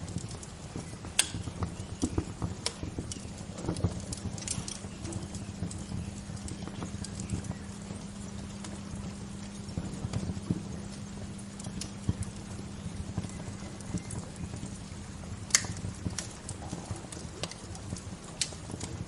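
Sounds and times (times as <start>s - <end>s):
fire pops and snaps: 0.0s - 19.0s
low hiss and rumble: 0.0s - 19.0s
wood fire crackling: 0.0s - 19.0s.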